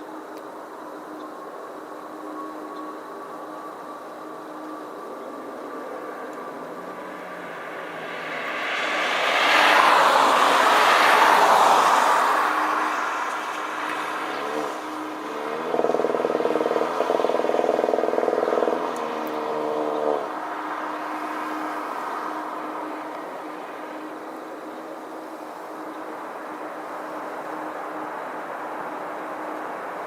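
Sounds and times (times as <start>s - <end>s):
jet airliner passing overhead: 1.7s - 26.8s.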